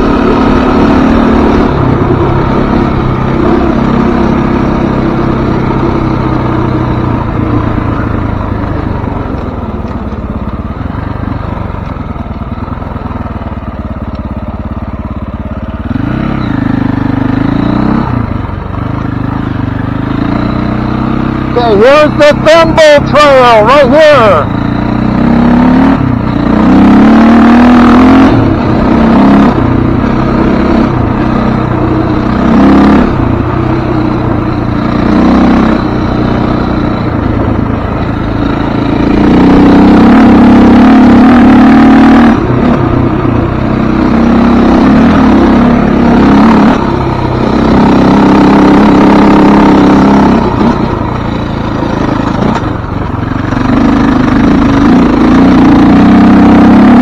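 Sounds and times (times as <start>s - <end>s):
off-road vehicle engine driving: 0.0s - 57.0s.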